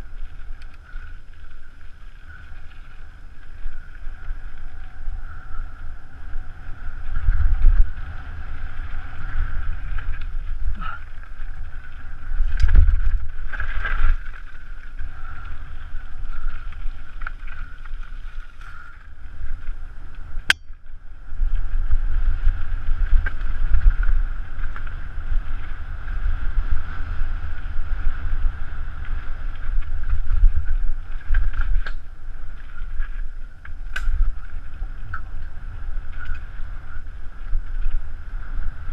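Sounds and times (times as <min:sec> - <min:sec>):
bike clicks and rattles: 0:00.0 - 0:38.9
wind buffeting microphone: 0:00.0 - 0:38.9.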